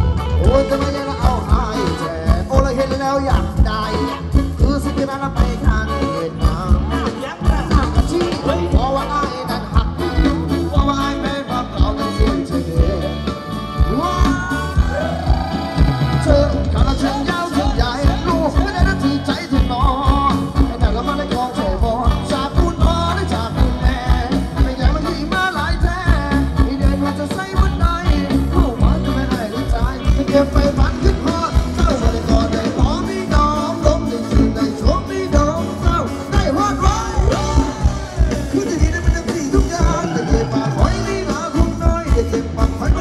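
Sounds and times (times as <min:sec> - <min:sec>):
drum kit beat: 0:00.0 - 0:43.0
live band dance music: 0:00.0 - 0:43.0
person singing: 0:00.0 - 0:43.0.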